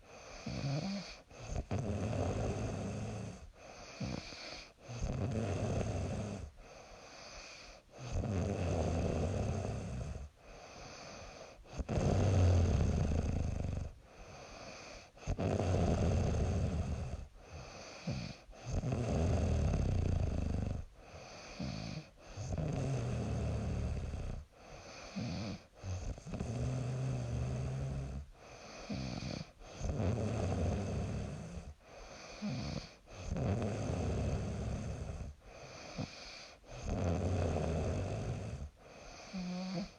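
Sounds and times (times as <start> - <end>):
quiet breathing: 0.0 - 39.9
woman snoring: 0.0 - 39.9.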